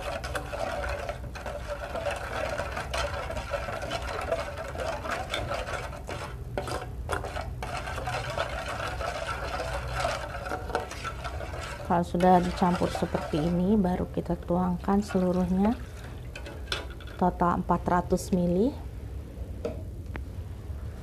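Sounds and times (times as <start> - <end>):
metal spoon scraping saucepan: 0.0 - 17.3.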